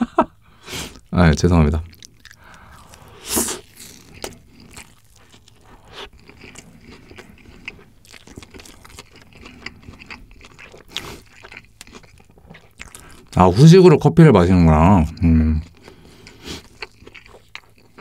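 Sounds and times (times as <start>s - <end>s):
chewing crunchy burger: 1.8s - 13.7s, 15.0s - 18.0s.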